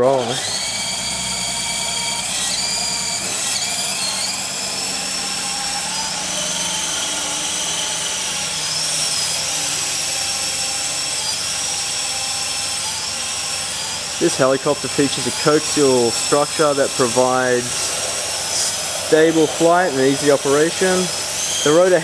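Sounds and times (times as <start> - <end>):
toy helicopter motors whining: 0.0 - 22.0.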